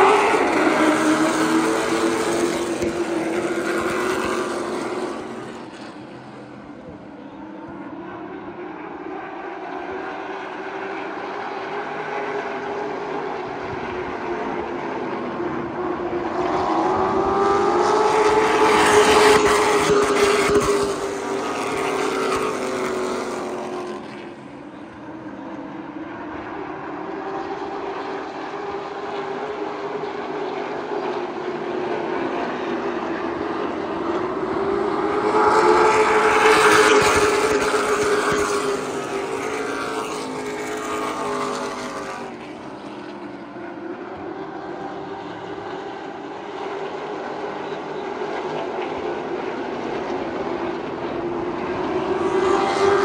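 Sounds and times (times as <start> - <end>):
stock car engines racing: 0.0 - 53.0.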